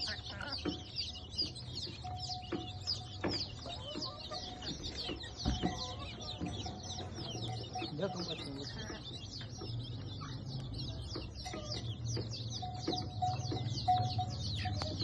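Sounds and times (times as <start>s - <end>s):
birds chirping in chorus: 0.0s - 15.0s
poultry clucking: 0.0s - 15.0s.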